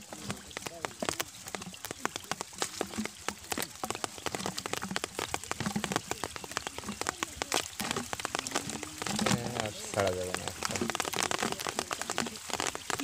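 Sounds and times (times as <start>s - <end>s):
water splashes and drips: 0.0s - 13.0s.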